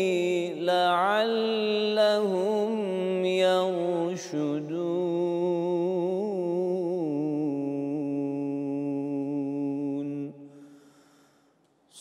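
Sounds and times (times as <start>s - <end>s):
man chanting melodically: 0.0s - 10.4s.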